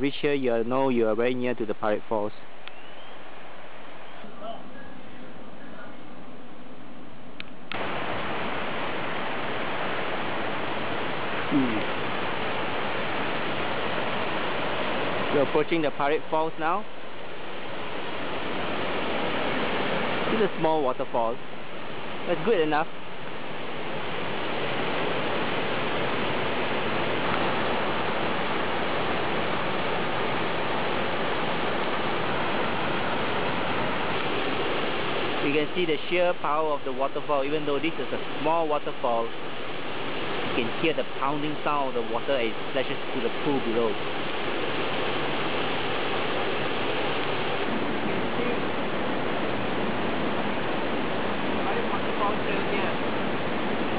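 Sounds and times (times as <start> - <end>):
waterfall rushing: 7.7 - 53.9.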